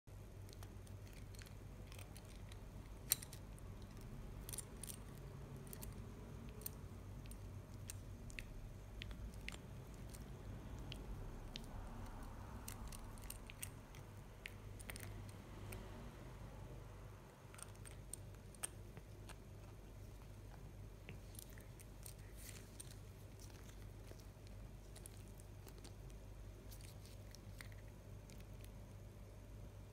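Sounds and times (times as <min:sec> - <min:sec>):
low hum: 0:00.1 - 0:29.9
puppy chewing: 0:00.3 - 0:15.9, 0:17.4 - 0:29.1.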